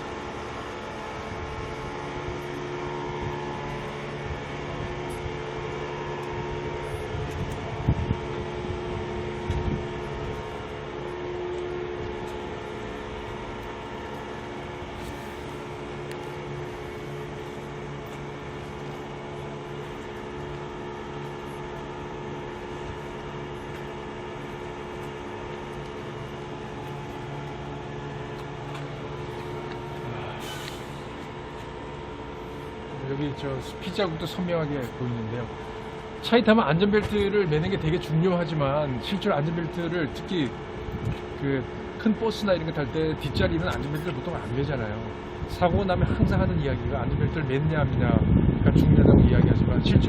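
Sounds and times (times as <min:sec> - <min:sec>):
steady tones: 0:00.0 - 0:47.7
machine hum: 0:00.0 - 0:50.0.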